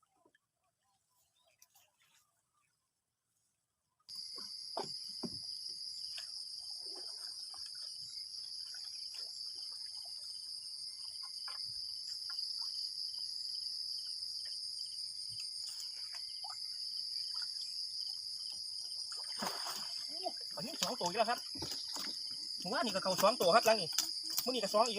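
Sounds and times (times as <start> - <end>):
insects buzzing and trilling: 4.1 - 24.9.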